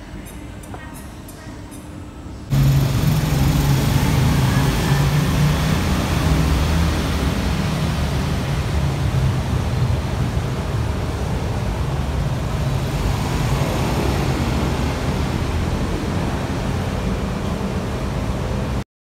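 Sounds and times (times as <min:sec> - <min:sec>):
faint escalator hum: 0:00.0 - 0:18.8
motorcycle engines running: 0:02.5 - 0:18.8.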